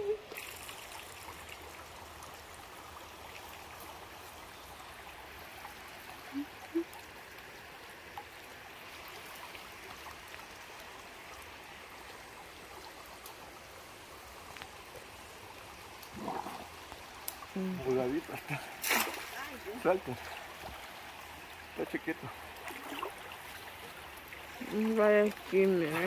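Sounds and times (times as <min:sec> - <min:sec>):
creek water trickling over stones: 0:00.0 - 0:26.0.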